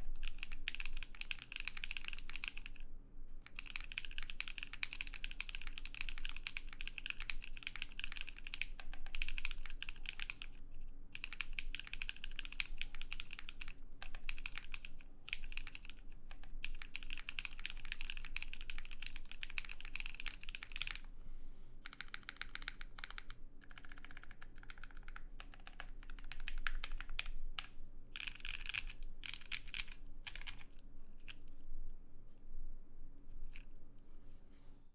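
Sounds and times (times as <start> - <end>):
fast typing on mechanical keyboard: 0.0 - 2.8, 3.4 - 21.1, 21.8 - 31.3.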